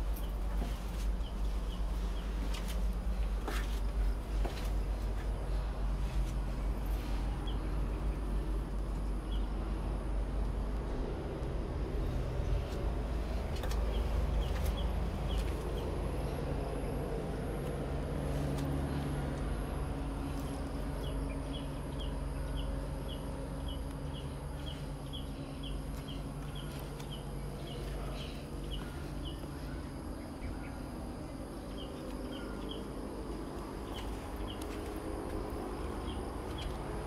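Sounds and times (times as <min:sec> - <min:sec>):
low rumble with faint hum: 0:00.0 - 0:37.0.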